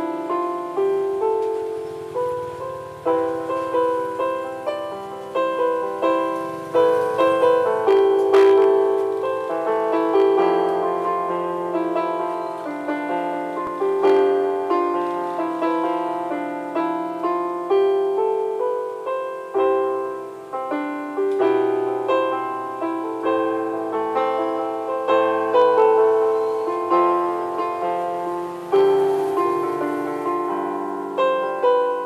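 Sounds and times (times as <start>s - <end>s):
electronic keyboard piano melody: 0.0s - 32.0s.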